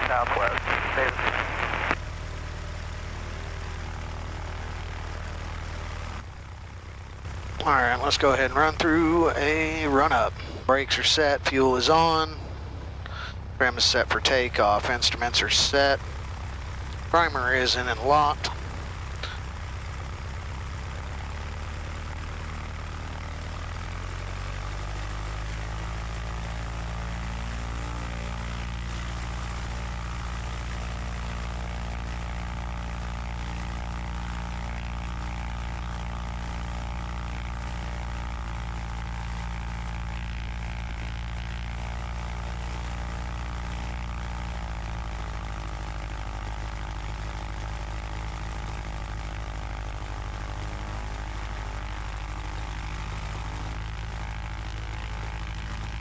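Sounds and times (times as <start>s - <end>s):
small plane engine run-up: 0.0s - 56.0s.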